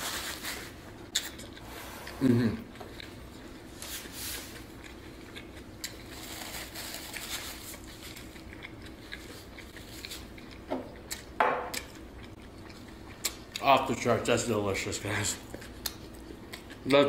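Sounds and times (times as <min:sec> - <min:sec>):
chewing food: 0:02.2 - 0:14.0, 0:15.0 - 0:17.0.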